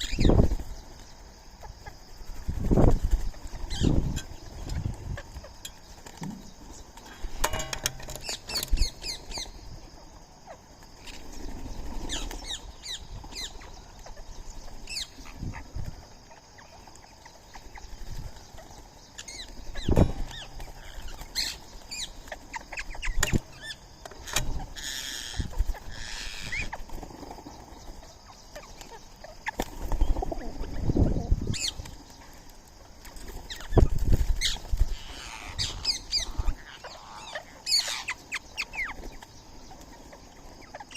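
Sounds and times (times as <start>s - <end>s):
birds chirping and squawking: 0.0s - 40.9s.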